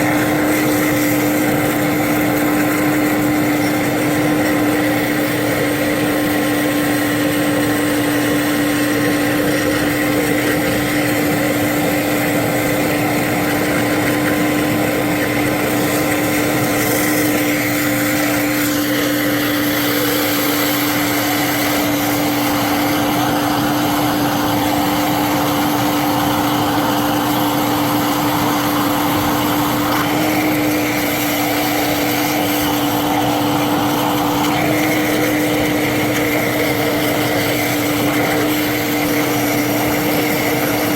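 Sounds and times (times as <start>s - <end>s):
machine whining and hissing: 0.0s - 40.9s.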